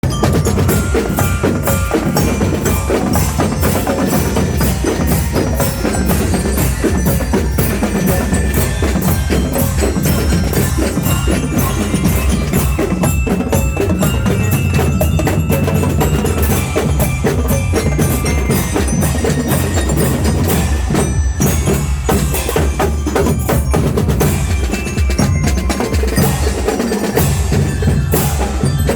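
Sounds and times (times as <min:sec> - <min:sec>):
bell-like mallet notes: 0:00.0 - 0:28.9
fast drumming: 0:00.0 - 0:28.9.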